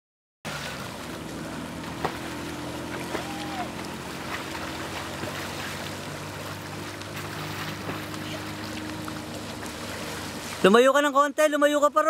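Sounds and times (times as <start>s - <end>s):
personal watercraft engine hum: 0.5s - 12.0s.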